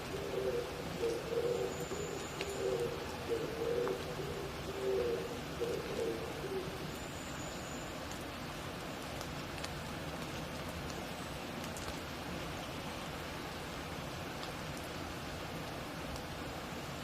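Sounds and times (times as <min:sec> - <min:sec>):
rain hissing in a forest: 0:00.0 - 0:17.0
raindrops ticking: 0:00.0 - 0:17.0.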